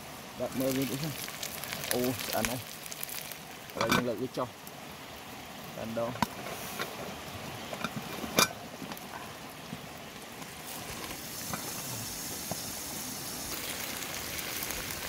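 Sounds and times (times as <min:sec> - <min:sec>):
pot hissing over wood fire: 0:00.0 - 0:15.0.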